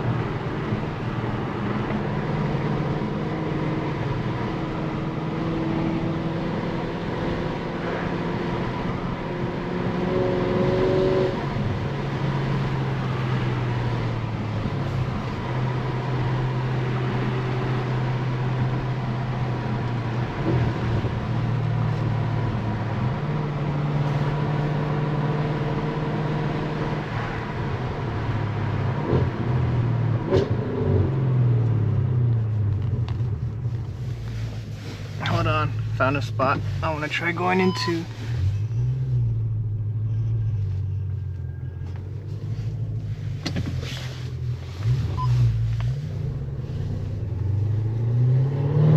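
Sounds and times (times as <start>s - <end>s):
car engine while driving: 0.0s - 48.9s
road noise: 0.0s - 48.9s.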